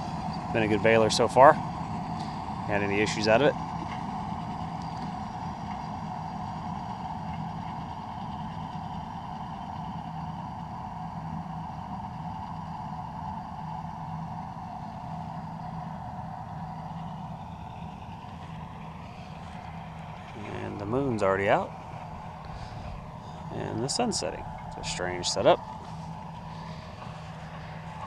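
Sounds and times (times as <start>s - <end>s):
vehicle engine droning: 0.0s - 28.0s.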